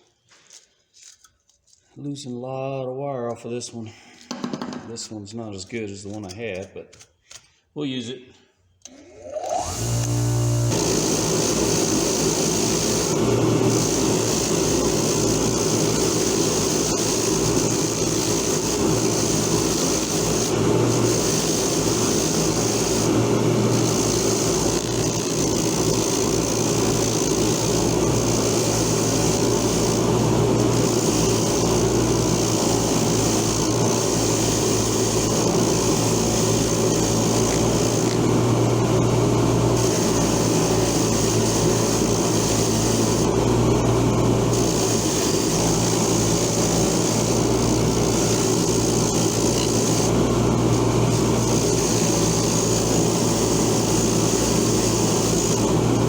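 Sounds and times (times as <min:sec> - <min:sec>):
wire wheel motor running: 0:08.9 - 0:56.0.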